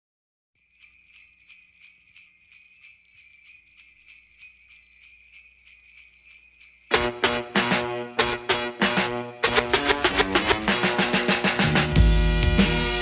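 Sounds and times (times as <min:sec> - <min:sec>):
sleigh bells shaken: 0:00.6 - 0:13.0.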